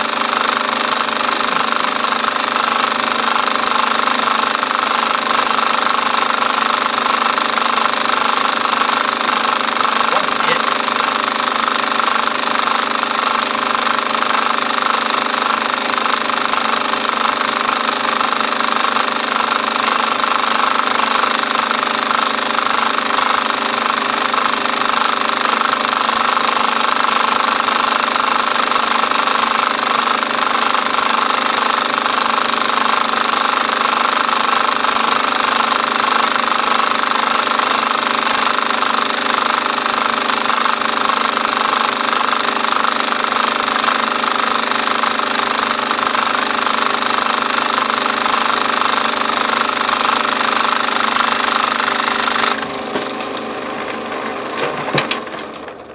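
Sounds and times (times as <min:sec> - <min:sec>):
film projector clattering: 0:00.0 - 0:55.9.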